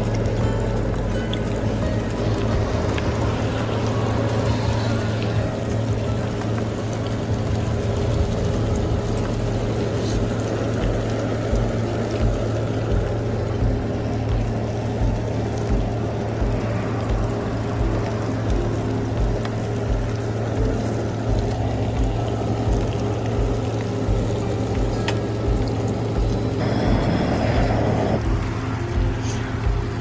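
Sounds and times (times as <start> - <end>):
oil sizzling in frying pan: 0.0 - 30.0
steady low hum: 0.0 - 30.0.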